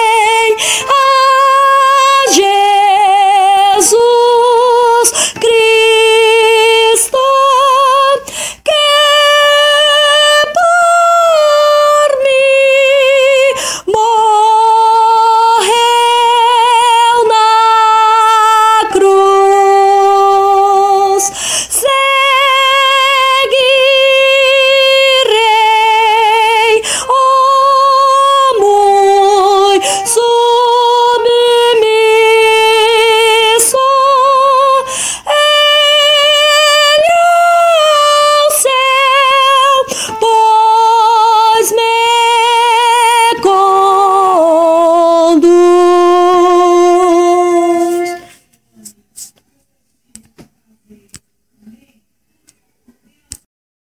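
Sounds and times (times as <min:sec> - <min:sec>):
soprano voice singing a hymn: 0:00.0 - 0:48.5.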